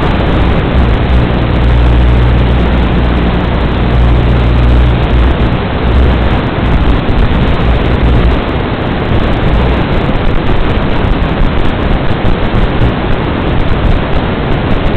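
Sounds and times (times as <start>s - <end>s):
low hum: 0.0s - 14.9s
static hiss: 0.0s - 14.9s.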